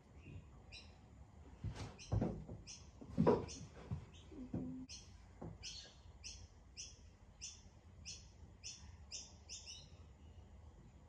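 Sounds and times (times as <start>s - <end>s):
bird chirping: 0.0s - 1.1s, 1.7s - 10.6s.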